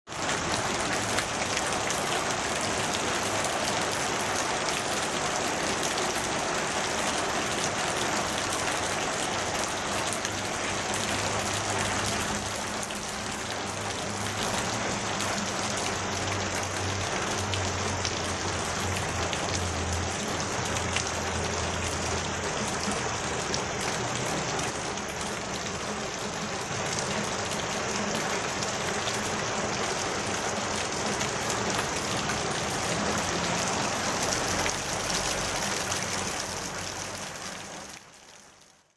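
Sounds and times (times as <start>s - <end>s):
steady rain falling: 0.1s - 38.9s.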